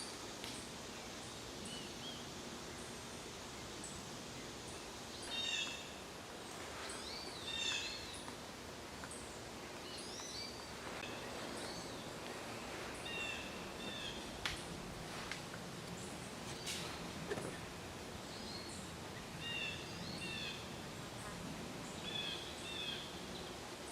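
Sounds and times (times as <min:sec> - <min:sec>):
outdoor background noise: 0:00.0 - 0:23.9.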